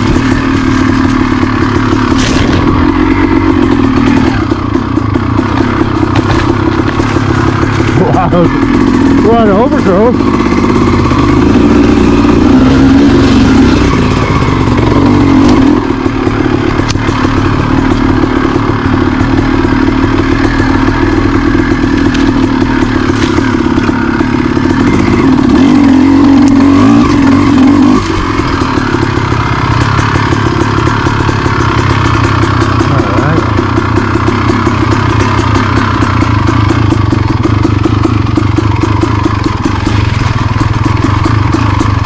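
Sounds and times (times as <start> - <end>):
clatter: 0.0 - 42.0
dirt bike engine revving: 0.0 - 42.0.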